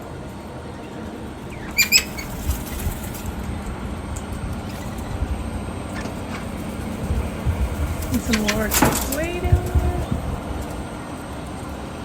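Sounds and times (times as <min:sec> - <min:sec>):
steady low rumble: 0:02.3 - 0:12.0.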